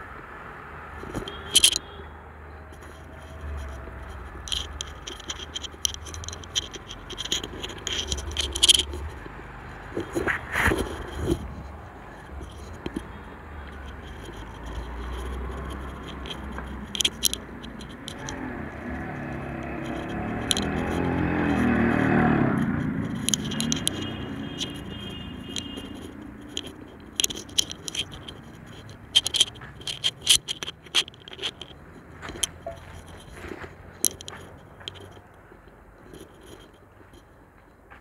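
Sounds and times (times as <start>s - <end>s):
vehicle passing by: 0.0s - 1.4s, 2.0s - 35.9s
scraping and clicking noises: 0.9s - 38.0s.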